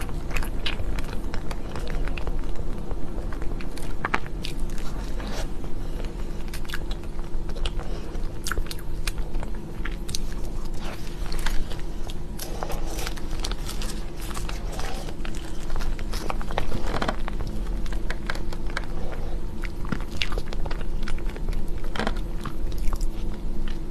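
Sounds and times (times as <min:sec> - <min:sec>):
person chewing cake: 0:00.0 - 0:23.9.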